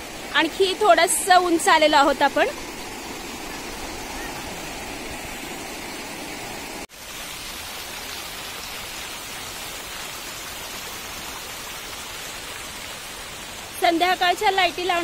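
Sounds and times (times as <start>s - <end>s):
fountain water splashing into pool: 0.0s - 15.0s.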